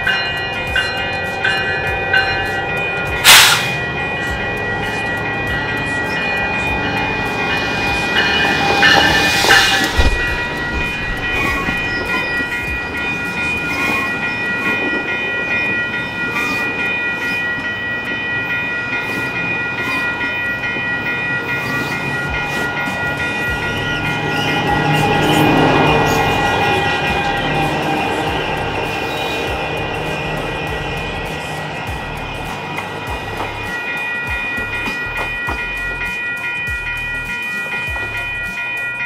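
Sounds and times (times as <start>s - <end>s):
steady high whine: 0.0s - 39.0s
train coaches rumbling: 0.0s - 39.0s
train wheels clacking over rails: 0.0s - 39.0s.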